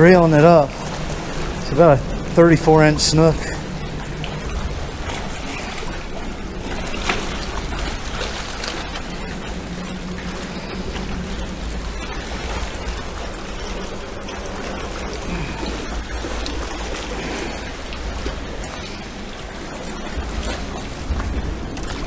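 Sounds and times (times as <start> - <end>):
low rumble: 0.0 - 22.0
small waves washing on rocks: 0.0 - 22.0.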